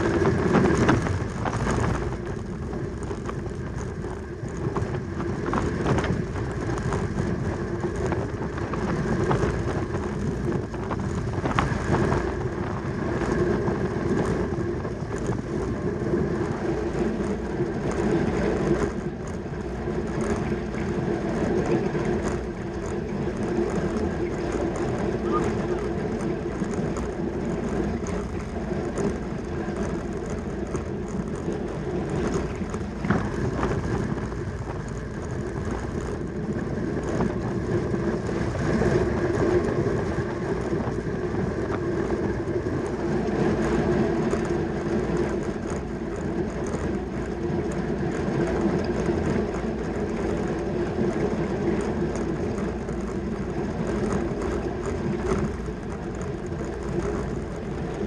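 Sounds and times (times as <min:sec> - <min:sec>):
bicycle tyres and chain whirring: 0:00.0 - 0:58.0.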